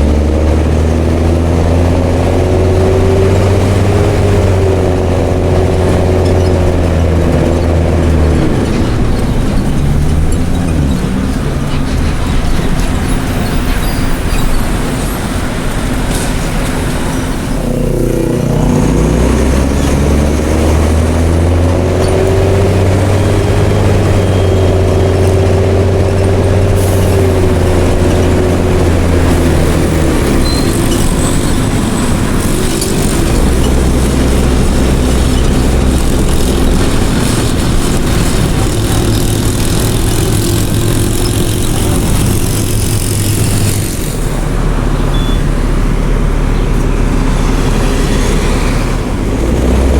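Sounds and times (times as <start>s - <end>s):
diesel bus engine revving: 0.0s - 49.9s.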